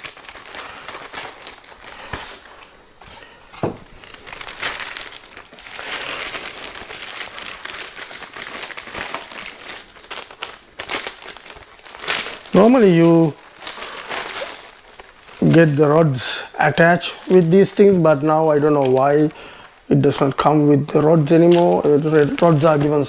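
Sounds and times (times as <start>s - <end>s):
packaging crinkling and rustling: 0.0s - 23.0s.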